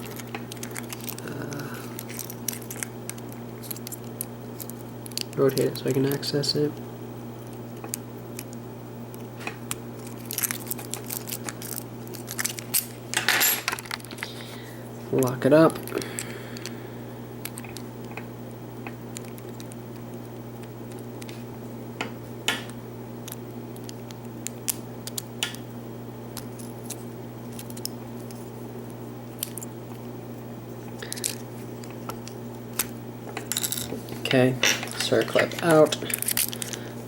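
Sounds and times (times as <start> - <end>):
low electrical hum: 0.0 - 37.0.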